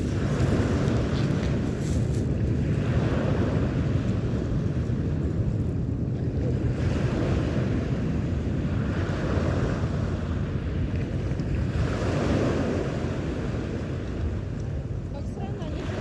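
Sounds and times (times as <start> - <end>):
sea waves washing on shore: 0.0 - 16.0
wind buffeting microphone: 0.0 - 16.0.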